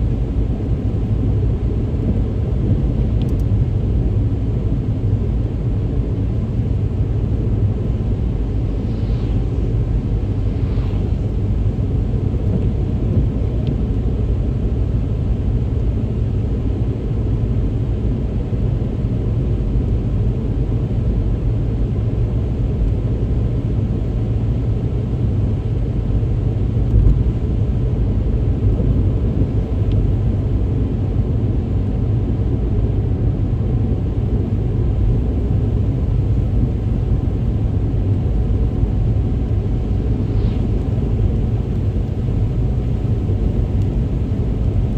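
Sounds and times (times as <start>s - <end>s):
engine and tyres rumbling: 0.0s - 17.7s, 22.1s - 44.9s.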